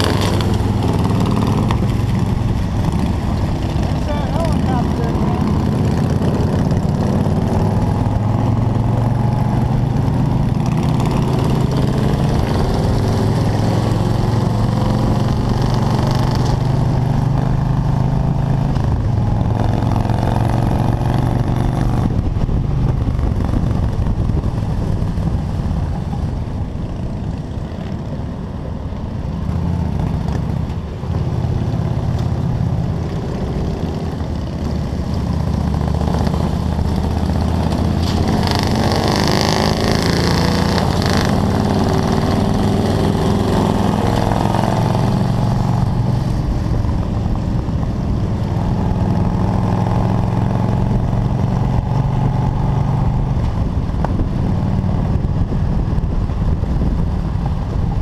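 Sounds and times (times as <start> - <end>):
motorcycle engine running: 0.0 - 58.0
road noise: 0.0 - 58.0
wind noise: 0.0 - 58.0.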